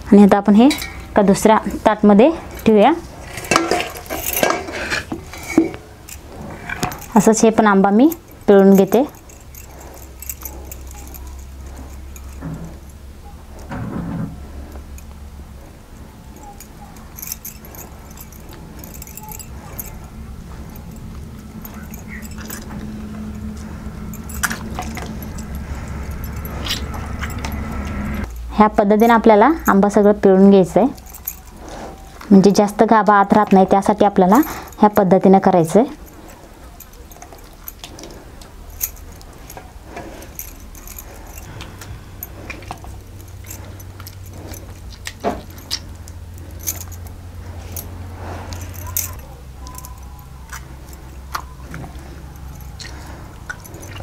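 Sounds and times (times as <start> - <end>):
bangles clinking: 0.0 - 13.7, 14.3 - 54.0
steady low hum: 0.0 - 54.0.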